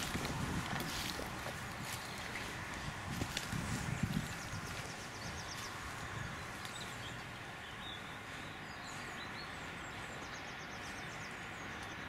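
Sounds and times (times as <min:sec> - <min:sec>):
small birds trilling and chirping: 0:00.0 - 0:12.0
steady outdoor hiss: 0:00.0 - 0:12.0.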